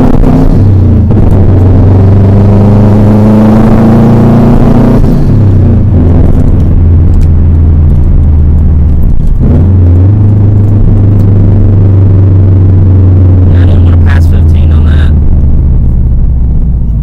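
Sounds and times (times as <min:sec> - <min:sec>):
car engine while driving: 0:00.0 - 0:17.0.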